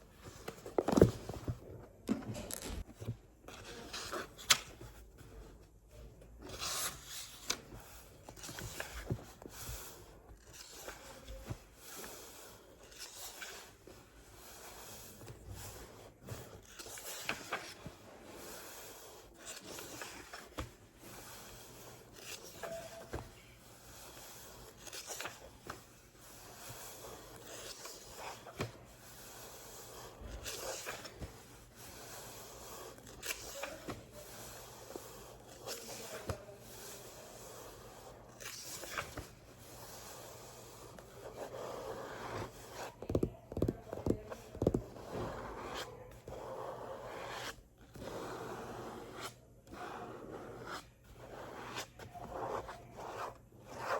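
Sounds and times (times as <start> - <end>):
scratching and rubbing on book: 6.4 - 53.9.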